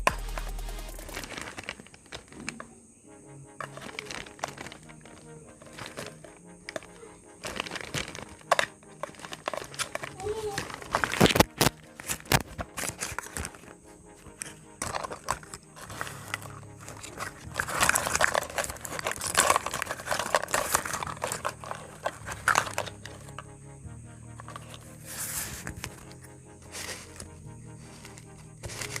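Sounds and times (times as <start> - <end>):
packaging crinkling and rustling: 1.1 - 2.6, 3.6 - 23.4, 24.4 - 29.0.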